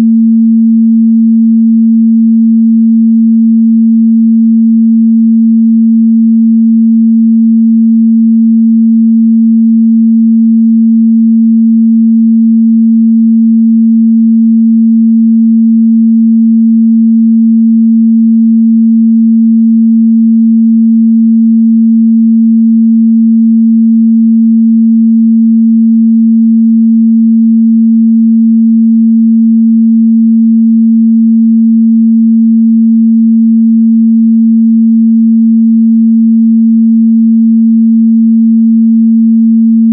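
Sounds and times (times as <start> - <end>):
sine test tone: 0.0 - 39.9.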